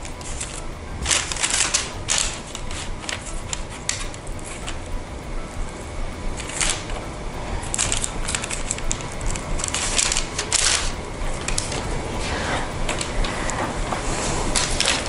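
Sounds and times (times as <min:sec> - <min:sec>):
low steady hum: 0:00.0 - 0:15.0
parchment paper crinkling: 0:00.0 - 0:15.0.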